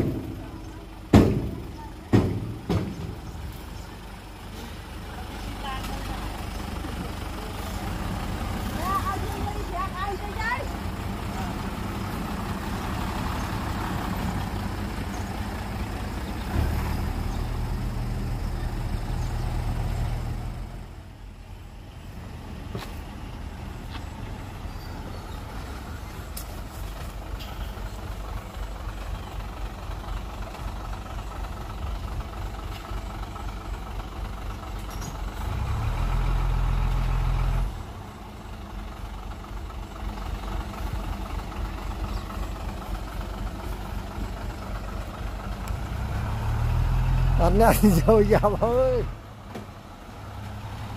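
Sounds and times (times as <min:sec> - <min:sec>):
diesel machinery engine running: 0:00.0 - 0:50.9.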